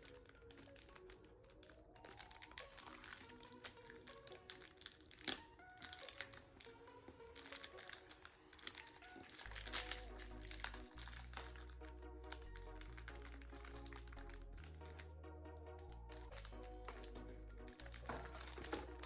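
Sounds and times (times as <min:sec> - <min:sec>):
packaging crinkling: 0:00.0 - 0:15.2, 0:15.8 - 0:19.0
soft background music: 0:00.0 - 0:19.0.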